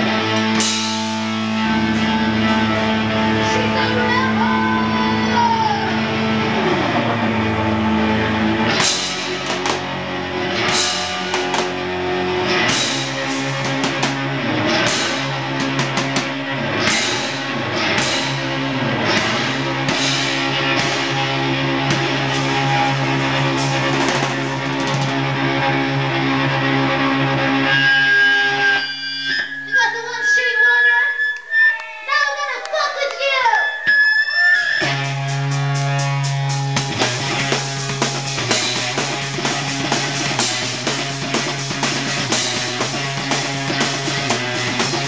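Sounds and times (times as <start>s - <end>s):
drum kit: 0.0s - 28.7s, 34.8s - 45.0s
electric guitar: 0.0s - 29.9s, 30.5s - 45.0s.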